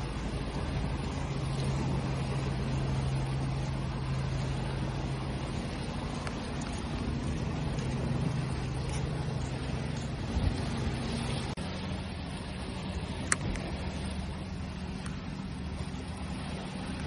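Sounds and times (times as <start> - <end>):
low hum: 0.0 - 17.0
ocean waves: 0.0 - 17.0.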